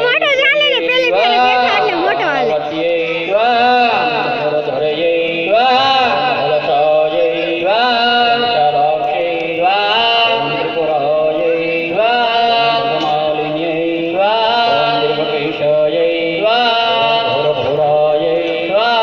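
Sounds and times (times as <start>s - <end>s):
mantra chanting: 1.1s - 19.0s.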